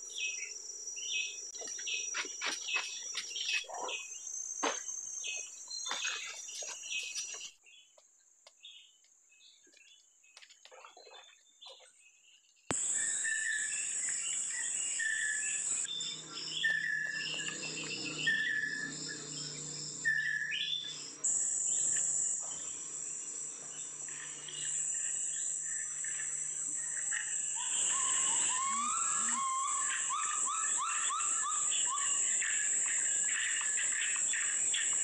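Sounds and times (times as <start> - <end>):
forest insect chorus: 0.0 - 7.8, 12.7 - 35.0.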